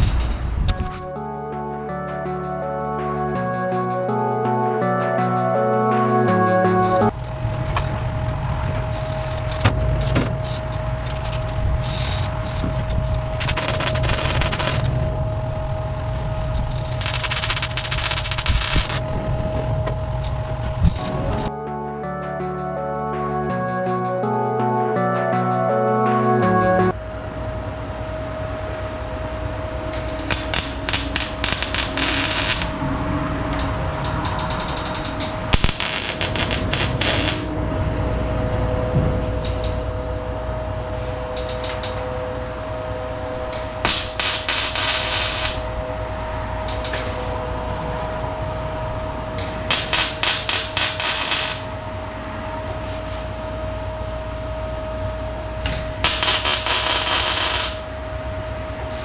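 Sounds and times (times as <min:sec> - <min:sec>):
steady hum: 0:06.5 - 0:21.8, 0:26.8 - 0:59.0.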